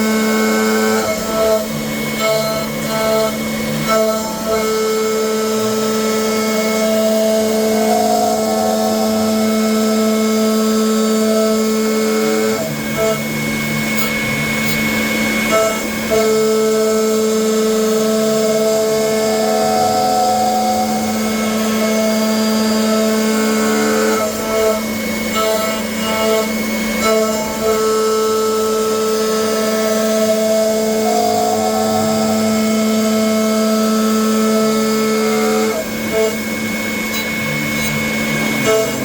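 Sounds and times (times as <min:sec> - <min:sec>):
cnc router whining: 0:00.0 - 0:39.0.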